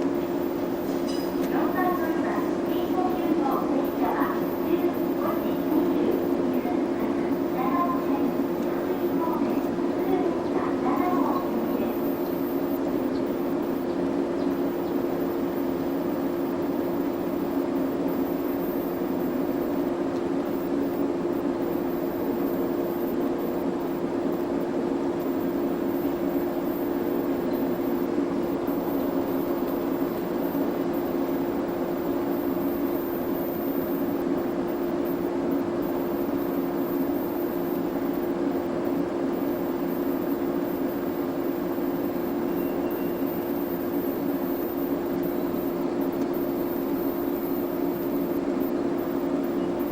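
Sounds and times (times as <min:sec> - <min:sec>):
machine drone with low hum: 0:00.0 - 0:49.9.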